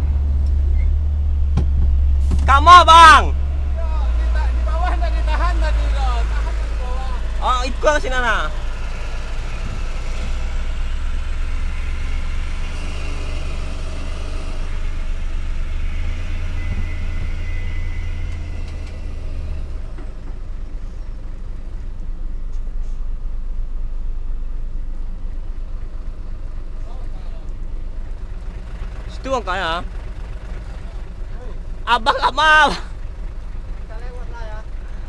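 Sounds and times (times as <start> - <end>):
diesel truck engine rumble: 0.0 - 35.0.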